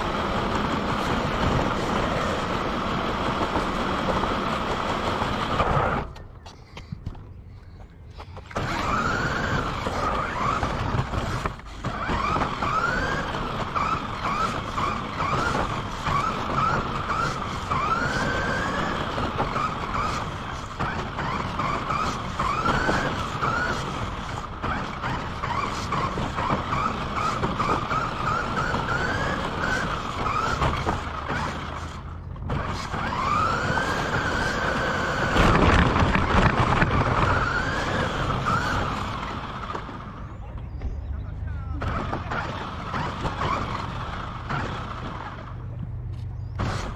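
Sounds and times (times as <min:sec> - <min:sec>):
toy car motor whining: 0:00.0 - 0:06.3, 0:08.2 - 0:40.2, 0:41.8 - 0:45.6, 0:46.5 - 0:46.9
tyres rumbling on pavement: 0:00.0 - 0:46.9.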